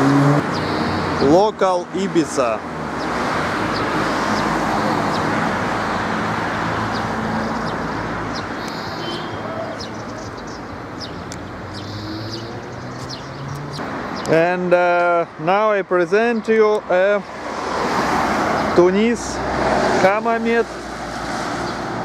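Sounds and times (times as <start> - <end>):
vehicle passing: 0.0 - 14.3, 17.2 - 22.0.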